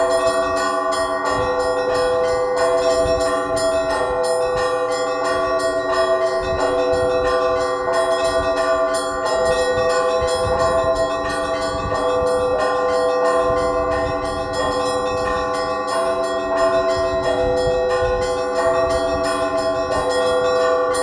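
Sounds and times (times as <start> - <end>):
church bells rung by hand: 0.0 - 21.0.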